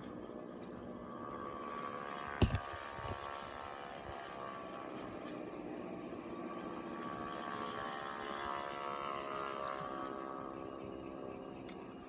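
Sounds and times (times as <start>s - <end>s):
droning videotape soundtrack: 0.0s - 12.0s.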